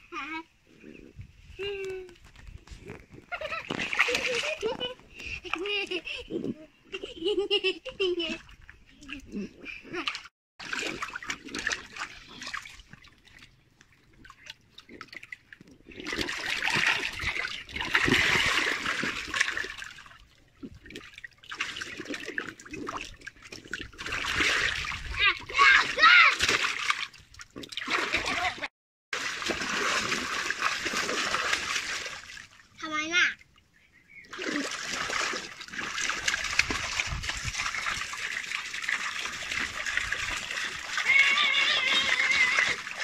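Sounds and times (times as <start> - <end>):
water splashing in paddling pool: 3.4 - 6.0, 8.1 - 33.6, 34.2 - 43.0.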